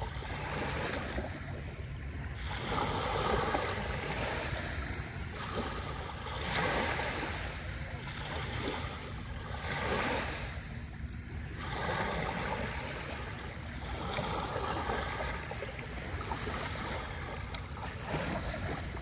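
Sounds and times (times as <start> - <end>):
lake waves washing on sandy beach: 0.0 - 19.0.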